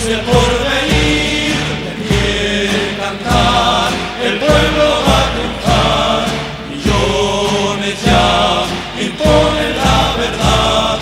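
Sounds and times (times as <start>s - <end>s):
choir singing over instruments: 0.0s - 11.0s
steady bass beat: 0.0s - 11.0s.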